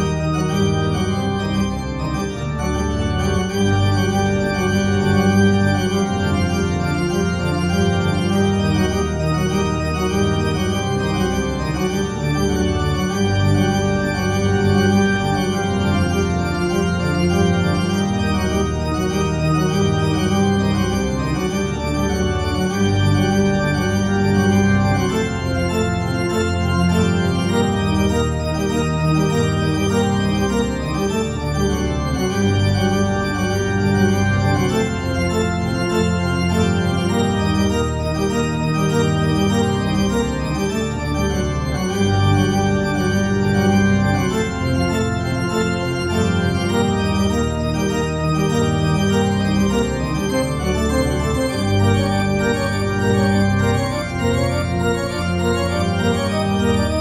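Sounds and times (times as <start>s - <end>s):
organ music with held chords: 0.0s - 57.0s.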